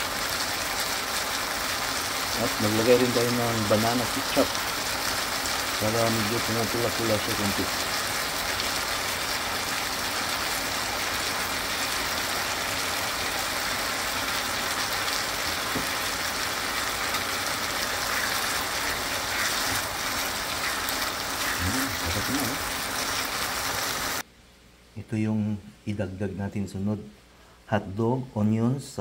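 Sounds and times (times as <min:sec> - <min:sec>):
food sizzling in a frying pan: 0:00.0 - 0:24.2.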